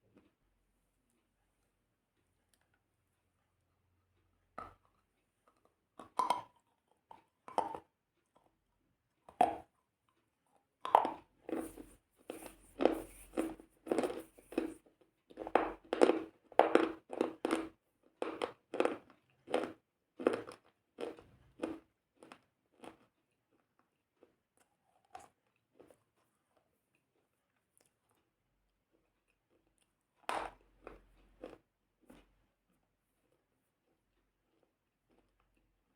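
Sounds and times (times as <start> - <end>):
crunchy food being chewed: 4.6 - 8.6, 9.2 - 35.9.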